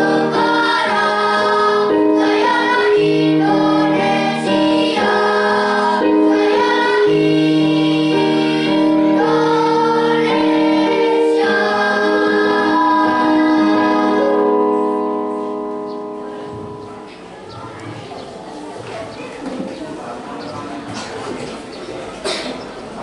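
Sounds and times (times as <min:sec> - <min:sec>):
children's choir singing: 0:00.0 - 0:18.6.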